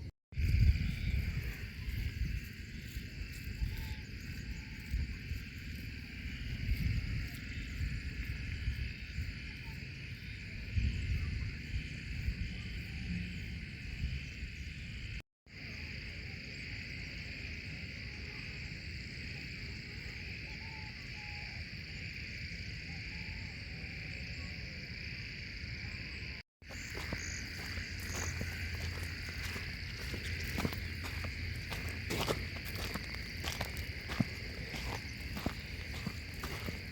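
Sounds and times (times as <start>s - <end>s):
insects chirring: 0.4s - 36.9s.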